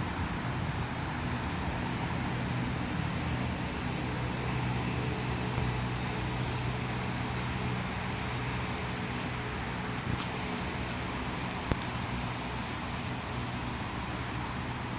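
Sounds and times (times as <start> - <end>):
rushing background noise: 0.0 - 14.9.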